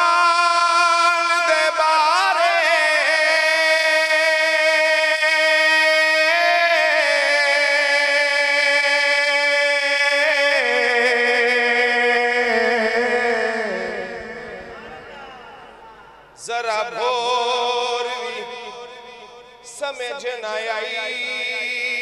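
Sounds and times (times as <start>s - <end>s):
man singing solo: 0.0s - 18.8s.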